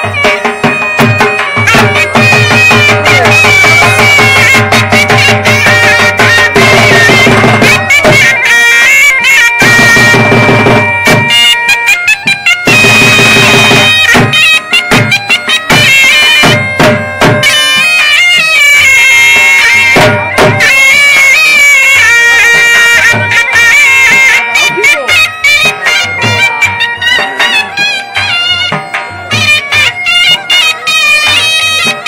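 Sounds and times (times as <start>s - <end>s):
drum strikes: 0.0s - 11.6s, 12.2s - 32.0s
reedy wind instrument melody: 0.0s - 32.0s.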